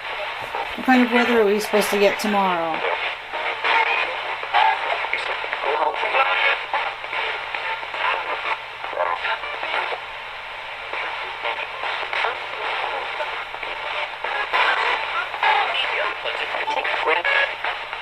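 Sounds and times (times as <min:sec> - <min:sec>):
choppy broadcast voices: 0:00.0 - 0:18.0
radio static: 0:00.0 - 0:18.0.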